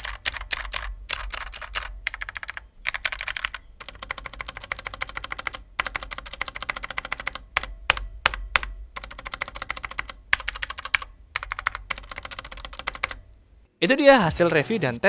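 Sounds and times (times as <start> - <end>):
mechanical keyboard typing: 0.0 - 13.2.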